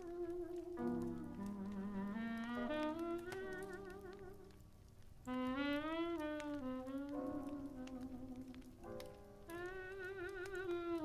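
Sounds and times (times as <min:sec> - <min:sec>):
fireplace crackling: 0:00.0 - 0:11.0
slow jazz on records: 0:00.0 - 0:11.0.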